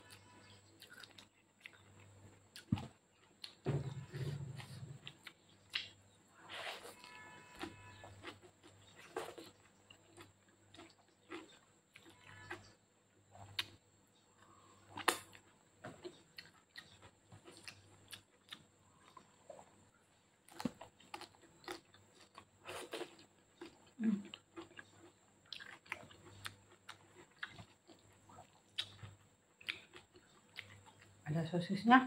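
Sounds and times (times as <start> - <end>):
person chewing spaghetti: 0.0 - 31.2.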